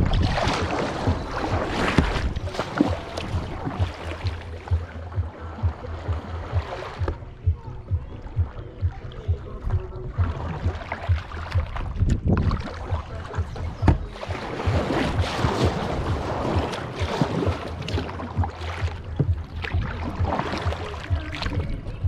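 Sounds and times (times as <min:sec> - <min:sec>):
paddle splashing water: 0:00.0 - 0:22.0
wind buffeting microphone: 0:00.0 - 0:22.0.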